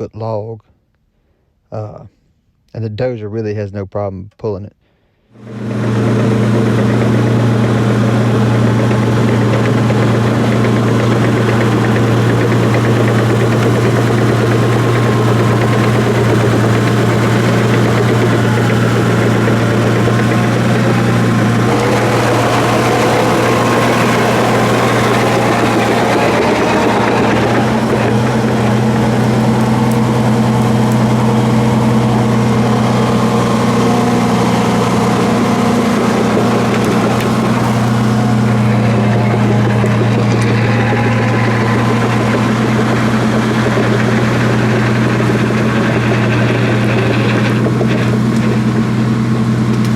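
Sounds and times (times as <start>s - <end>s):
bulldozer diesel engine running: 5.4s - 49.9s
high whine: 5.4s - 49.9s.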